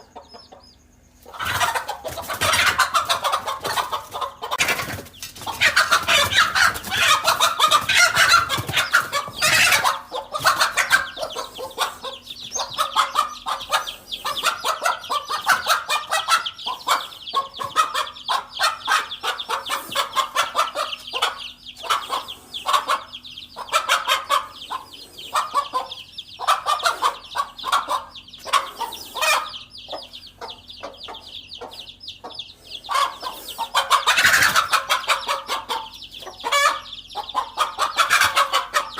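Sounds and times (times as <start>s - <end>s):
hen clucking and squawking: 0.0s - 38.9s.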